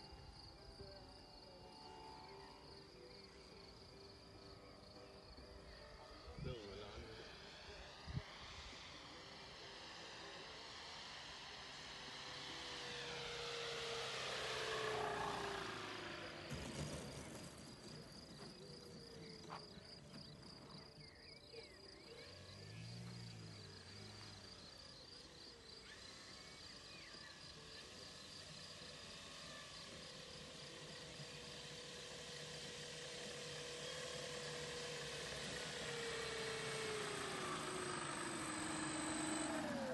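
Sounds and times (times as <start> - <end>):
model plane engine and propeller: 0.0 - 39.9.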